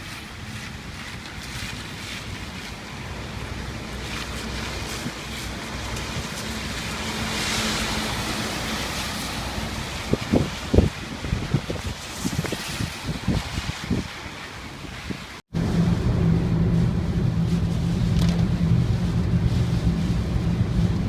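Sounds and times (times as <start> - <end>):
wind blowing in gusts: 0.0 - 21.0.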